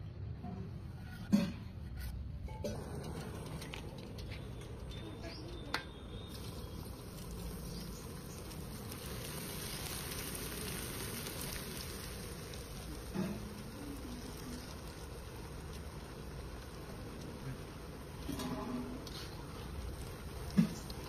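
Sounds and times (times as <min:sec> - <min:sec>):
deep-frying sizzle in oil: 0:02.7 - 0:21.0.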